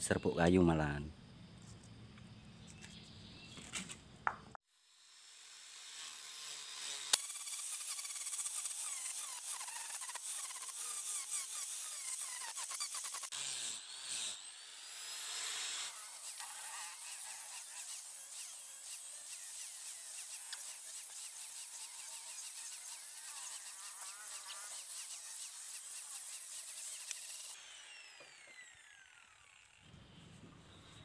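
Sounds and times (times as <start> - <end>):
power tool whining: 4.8 - 30.2.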